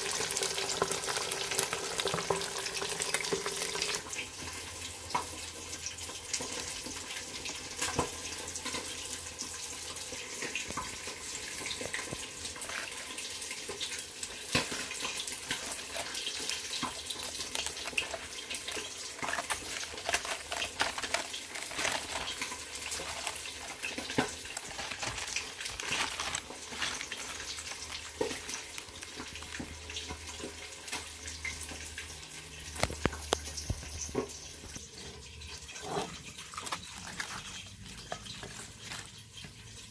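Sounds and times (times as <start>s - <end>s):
oil sizzling in a frying pan: 0.0s - 36.4s, 37.5s - 39.9s.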